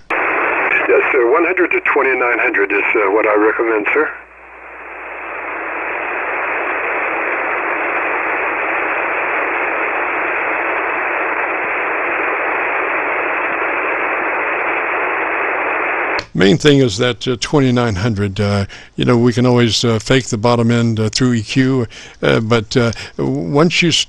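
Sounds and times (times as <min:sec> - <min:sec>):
radio receiver hiss: 0:00.0 - 0:24.0.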